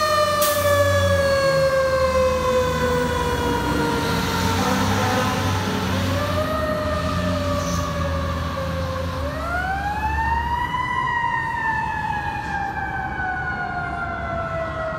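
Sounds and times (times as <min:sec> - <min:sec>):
fire truck siren wailing: 0:00.0 - 0:14.9.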